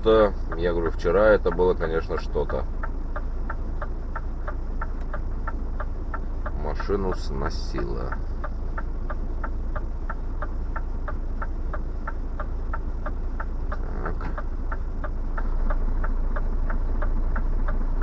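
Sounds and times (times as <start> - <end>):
diesel engine idling: 0.0 - 18.0
turn-signal relay ticking: 0.0 - 18.0.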